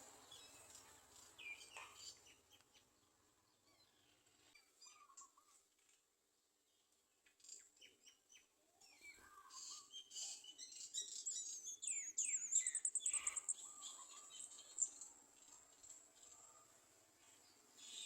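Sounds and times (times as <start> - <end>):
small birds chirping: 0.0 - 5.8, 6.7 - 18.0.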